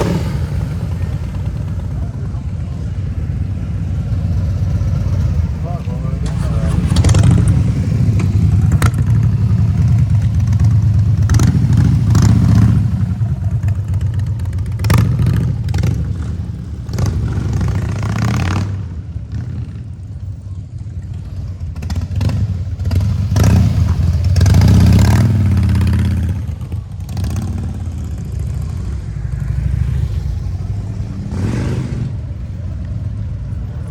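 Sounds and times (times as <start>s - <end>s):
motorcycle engine revving: 0.0s - 20.1s, 20.8s - 33.9s.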